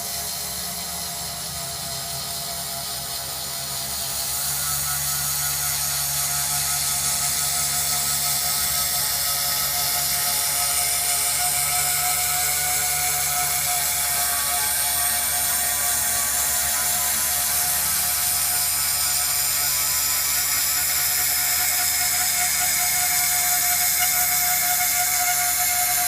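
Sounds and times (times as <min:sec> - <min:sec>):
milling spindle whine: 0:00.0 - 0:26.0
router bit cutting circuit board: 0:00.0 - 0:26.0.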